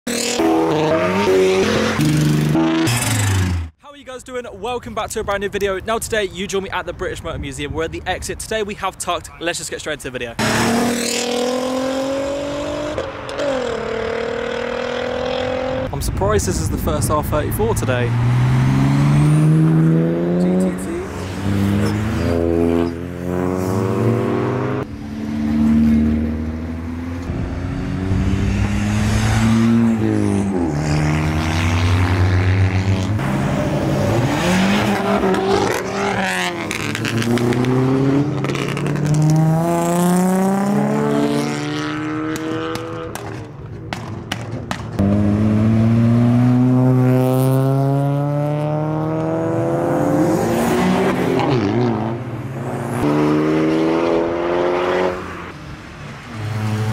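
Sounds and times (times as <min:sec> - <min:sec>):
car engines revving and accelerating: 0:00.0 - 0:03.8, 0:10.3 - 0:56.9.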